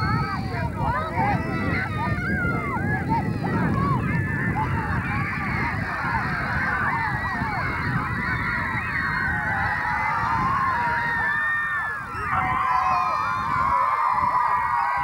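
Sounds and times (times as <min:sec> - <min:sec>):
children shouting and cheering: 0:00.0 - 0:15.0.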